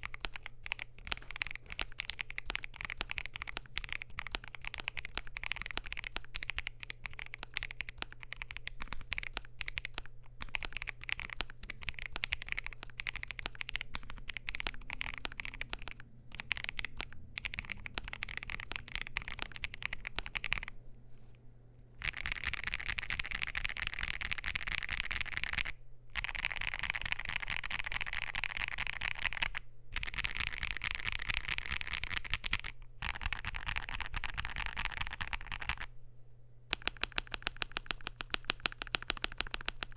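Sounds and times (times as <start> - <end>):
mechanical keyboard keystrokes clattering: 0.0 - 20.7, 22.0 - 35.9, 36.7 - 39.9.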